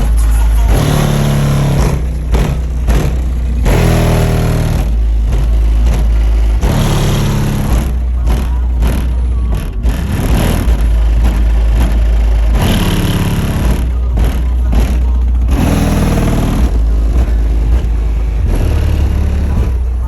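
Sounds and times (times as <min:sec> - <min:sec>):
bass-heavy music from subwoofers: 0:00.0 - 0:20.0.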